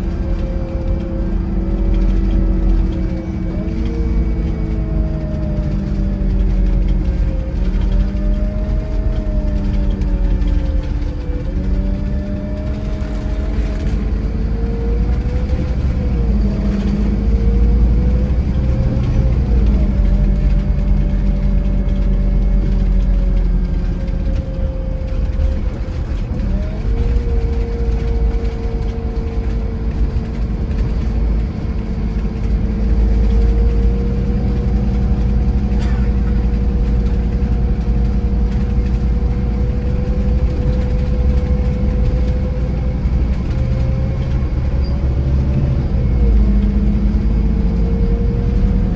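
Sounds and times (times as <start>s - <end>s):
coach engine rumble: 0.0s - 48.9s
drivetrain whine: 0.0s - 48.9s.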